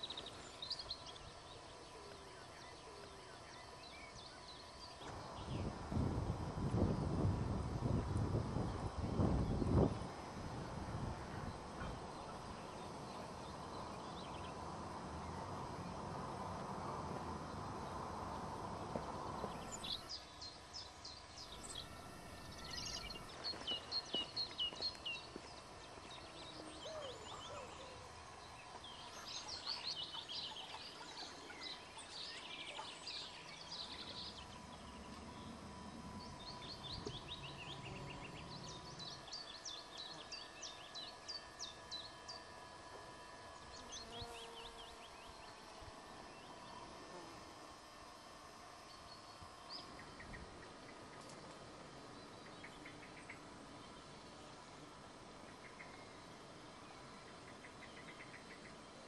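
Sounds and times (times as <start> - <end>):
outdoor background hiss: 0.0 - 59.0
songbirds singing: 0.0 - 59.0.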